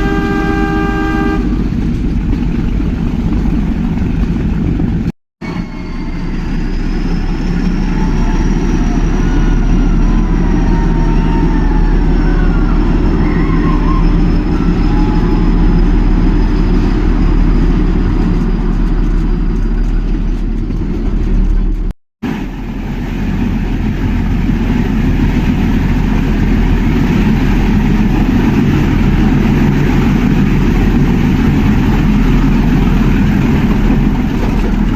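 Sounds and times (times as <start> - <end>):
train rumbling: 0.0 - 34.9.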